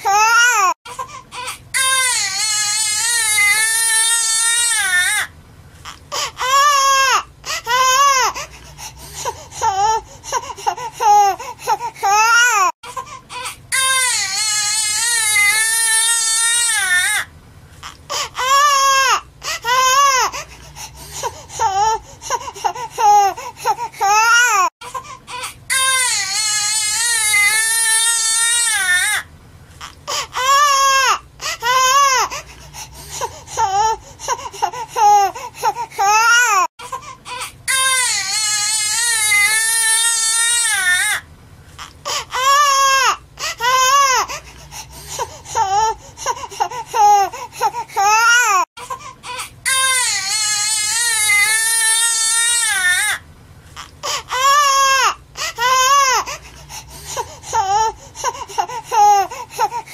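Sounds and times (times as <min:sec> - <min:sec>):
newborn baby crying: 0:00.0 - 0:08.5, 0:09.2 - 0:20.5, 0:21.2 - 0:32.5, 0:33.2 - 0:41.2, 0:41.8 - 0:53.2, 0:53.8 - 0:59.9.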